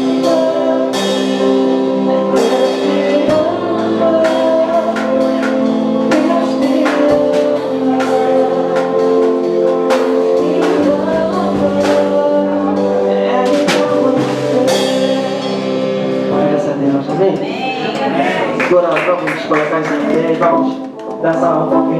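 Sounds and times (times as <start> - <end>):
drum kit beat: 0.0 - 21.5
held keyboard chords: 0.0 - 21.9.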